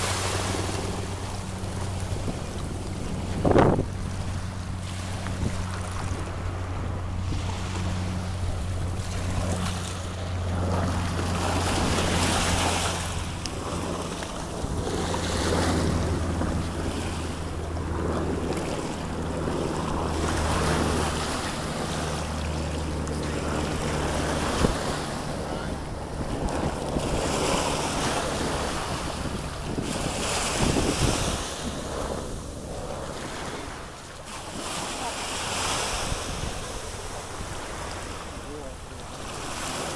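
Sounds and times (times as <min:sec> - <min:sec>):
wind buffeting microphone: 0:00.0 - 0:34.6, 0:35.4 - 0:39.9
low steady hum: 0:00.0 - 0:35.4
small waves washing on beach: 0:00.0 - 0:39.9.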